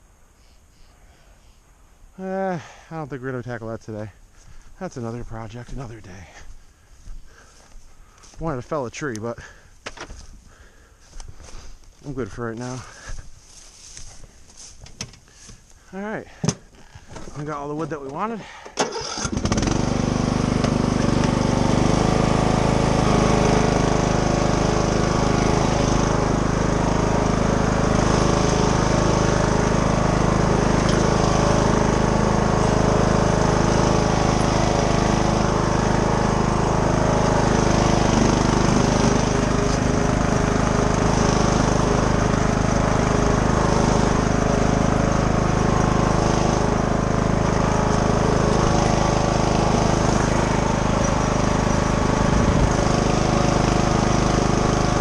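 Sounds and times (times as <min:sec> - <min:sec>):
lawn tractor engine running: 0:02.2 - 0:55.0.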